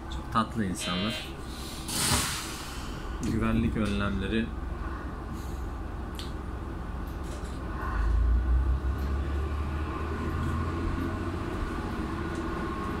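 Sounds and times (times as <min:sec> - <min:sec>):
diesel railcar engine running: 0:00.0 - 0:13.0.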